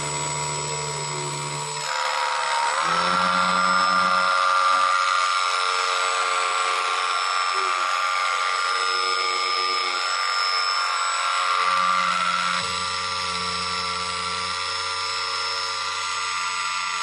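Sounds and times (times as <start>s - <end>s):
drone motor high-pitched whine: 0.0s - 17.0s
rough whirring noise: 0.0s - 17.0s.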